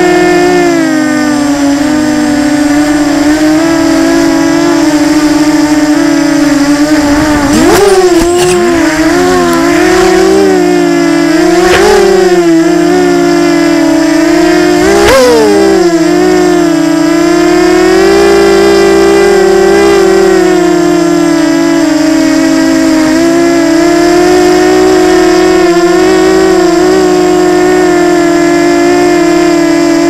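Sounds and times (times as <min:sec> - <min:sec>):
quadcopter motors whining: 0:00.0 - 0:30.0.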